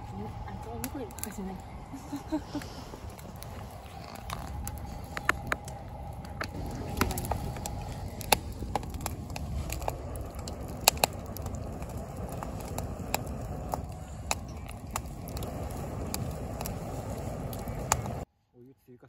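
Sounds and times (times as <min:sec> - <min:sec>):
firewood crackling and popping: 0:00.0 - 0:18.3
low rush of flame: 0:00.0 - 0:18.3.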